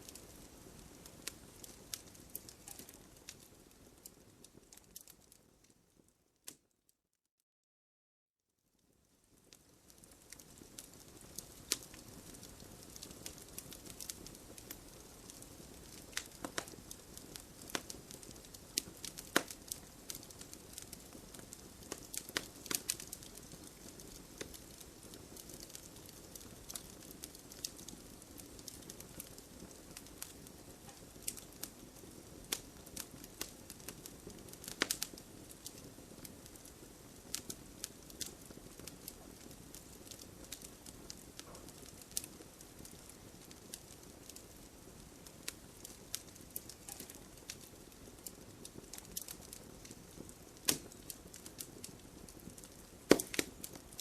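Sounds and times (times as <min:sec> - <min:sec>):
wood fire crackling: 0:00.0 - 0:06.7, 0:08.8 - 0:54.0.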